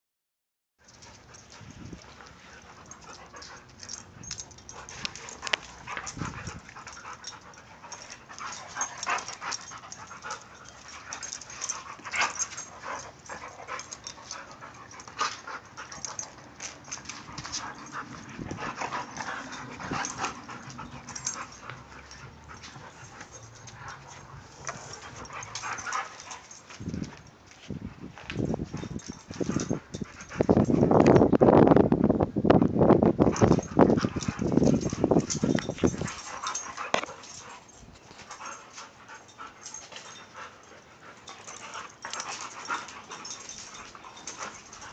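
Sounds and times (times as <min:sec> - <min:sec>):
dogs scuffling: 0:00.9 - 0:31.2, 0:33.2 - 0:44.9
dogs vocalizing while play-fighting: 0:00.9 - 0:31.2, 0:33.2 - 0:44.9.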